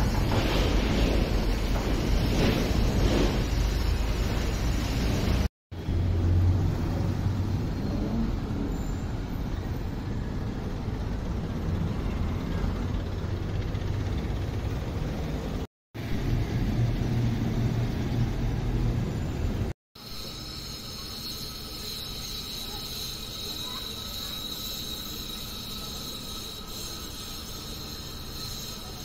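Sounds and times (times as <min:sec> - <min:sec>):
outdoor rumble and hiss: 0:00.0 - 0:29.0.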